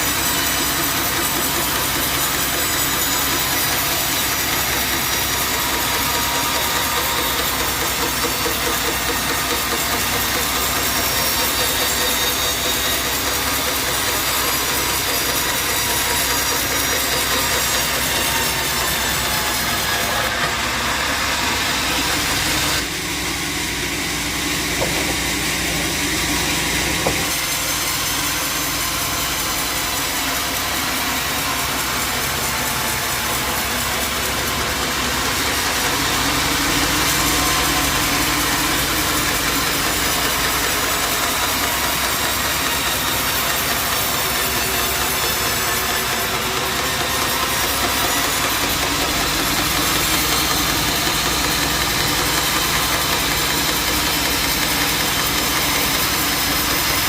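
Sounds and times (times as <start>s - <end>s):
bandsaw sawing log: 0.0s - 57.0s.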